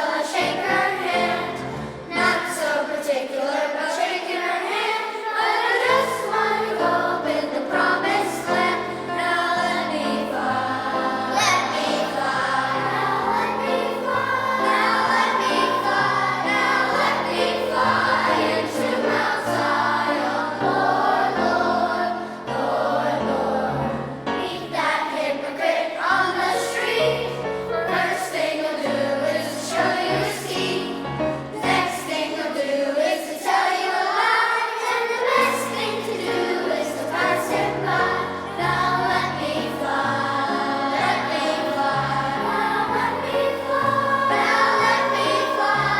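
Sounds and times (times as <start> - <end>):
children's choir singing: 0.0 - 45.9.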